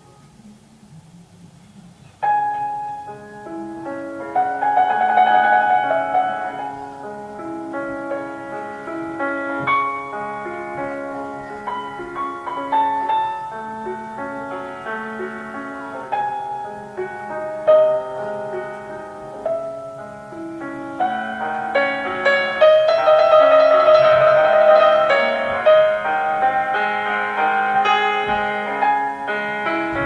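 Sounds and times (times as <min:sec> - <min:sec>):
classical piano music: 0:01.9 - 0:30.0.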